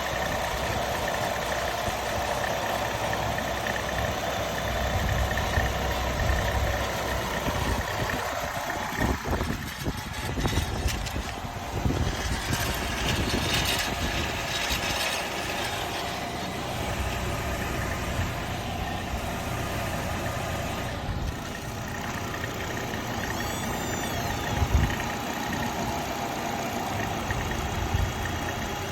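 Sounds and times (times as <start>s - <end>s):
car engine running: 0.0s - 28.9s
engine rattle and whine: 0.0s - 28.9s.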